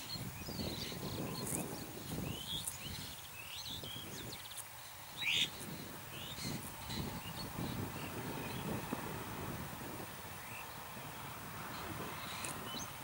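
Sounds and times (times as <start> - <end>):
small birds chirping: 0.0 - 9.1, 10.3 - 13.0.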